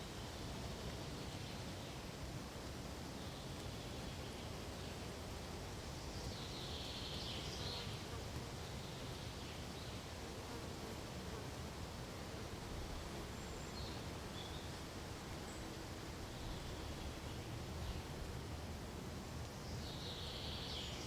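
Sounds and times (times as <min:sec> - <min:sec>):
wind rustling through trees: 0:00.0 - 0:21.0.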